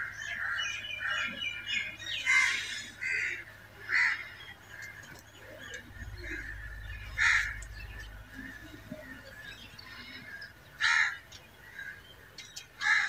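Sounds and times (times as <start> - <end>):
bird cawing: 0.0 - 13.0.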